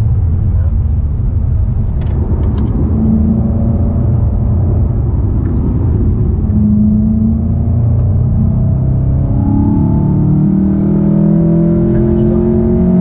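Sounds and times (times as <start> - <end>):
car engine from inside cabin: 0.0 - 13.0
road rumble: 0.0 - 13.0.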